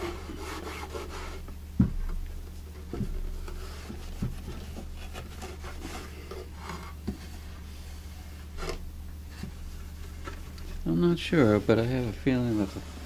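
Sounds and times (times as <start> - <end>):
cloth rubbing on wood: 0.0 - 1.5, 3.3 - 13.0
low electrical hum: 0.0 - 13.0.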